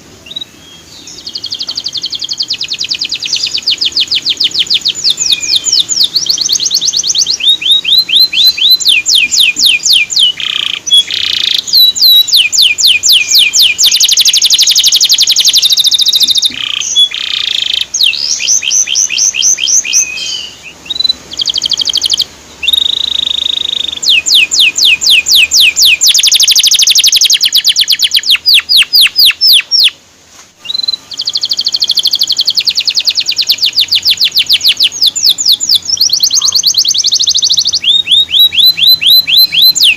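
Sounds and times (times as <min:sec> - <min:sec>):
canary singing trills: 0:00.0 - 0:30.0, 0:30.6 - 0:39.9.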